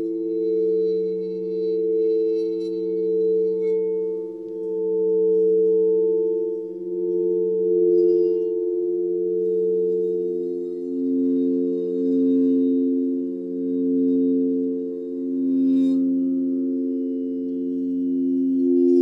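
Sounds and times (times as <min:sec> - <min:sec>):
faint high shimmers: 0:00.0 - 0:19.0
sustained pure tone drone: 0:00.0 - 0:19.0.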